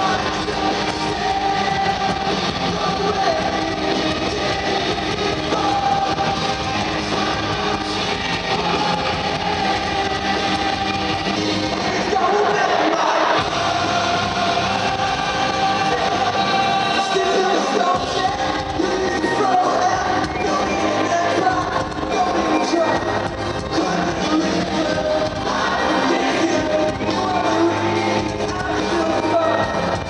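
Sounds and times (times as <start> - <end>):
live rock band: 0.0 - 30.0
person singing: 0.0 - 30.0.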